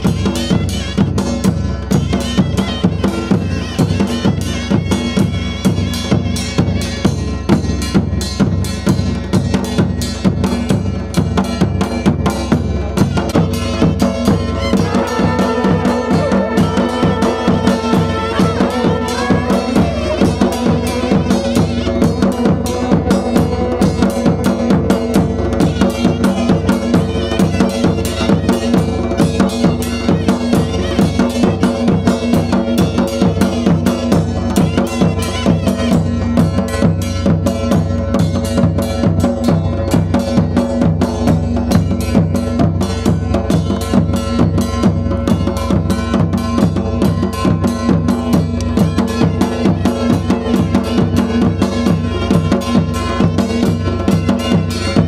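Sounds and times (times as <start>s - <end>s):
drums beaten with sticks: 0.0s - 55.0s
wind instrument melody: 0.0s - 55.0s.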